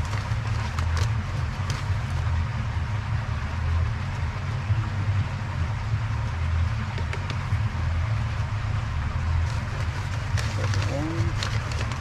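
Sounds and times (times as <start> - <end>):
pool pump motor rumbling: 0.0 - 12.0.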